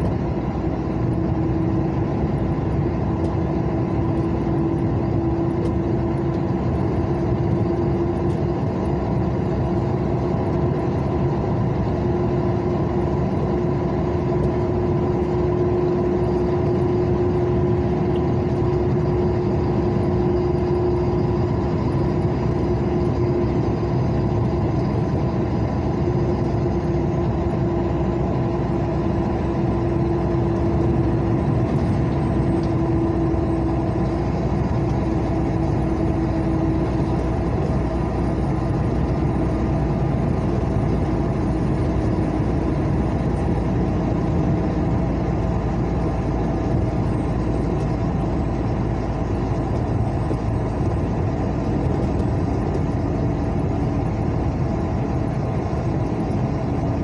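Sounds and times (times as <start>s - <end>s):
engine hum: 0.0s - 57.0s
whining tone: 0.0s - 57.0s.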